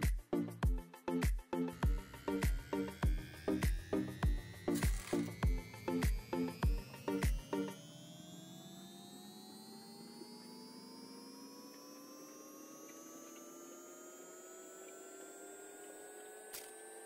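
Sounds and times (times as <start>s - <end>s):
small motor humming rising pitch: 1.6s - 17.0s.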